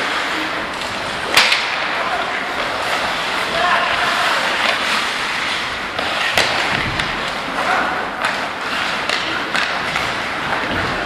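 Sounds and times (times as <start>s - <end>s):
skate blades scraping ice: 0.0s - 11.0s
sticks clacking on puck: 0.0s - 11.0s.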